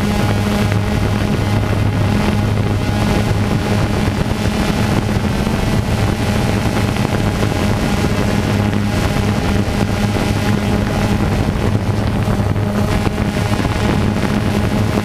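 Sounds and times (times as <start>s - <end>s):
motor humming: 0.0s - 15.0s
wind on microphone: 0.0s - 15.0s.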